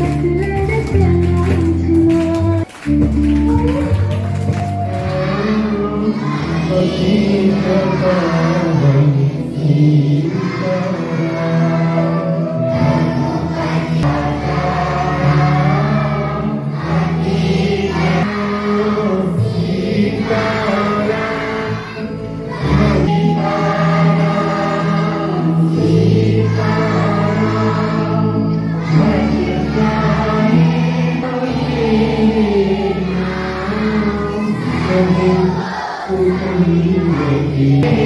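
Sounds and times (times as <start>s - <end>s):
group of voices singing: 3.6s - 38.0s.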